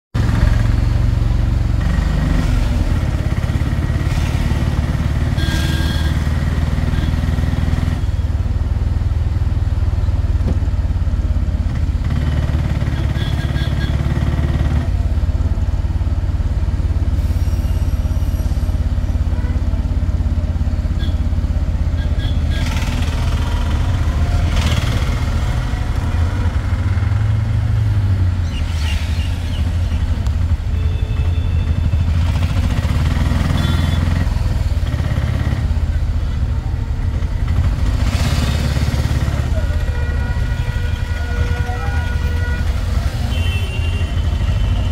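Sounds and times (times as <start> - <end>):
passing traffic: 0.1 - 44.9
motorcycle engine rumbling: 0.2 - 44.9.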